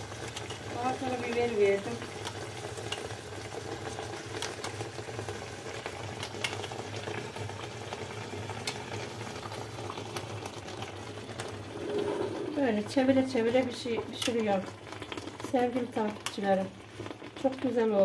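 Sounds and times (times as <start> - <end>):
syrup bubbling: 0.0 - 17.8.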